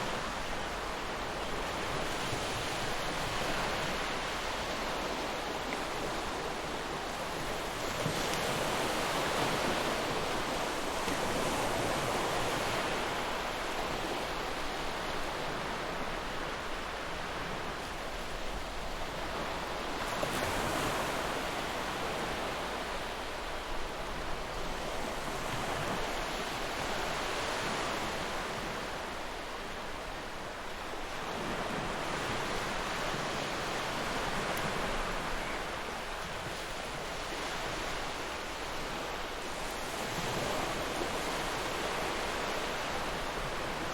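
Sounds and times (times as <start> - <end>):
ocean waves breaking on shore: 0.0 - 43.9.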